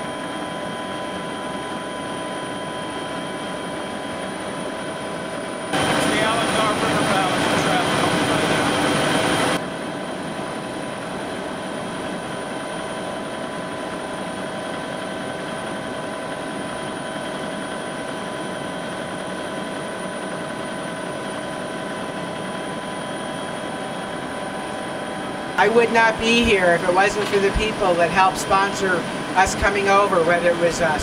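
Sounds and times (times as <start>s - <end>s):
constant whining tones: 0.0s - 31.0s
helicopter engine and rotor noise: 0.0s - 31.0s.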